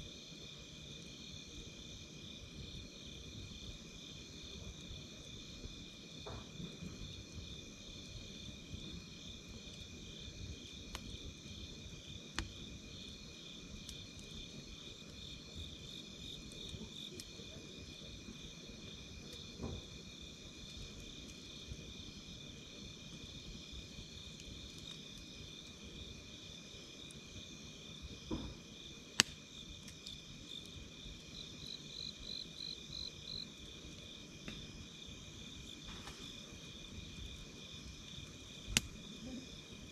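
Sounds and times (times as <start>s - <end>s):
night insects chirping: 0.0s - 39.9s
campfire wood popping and crackling: 0.4s - 39.9s.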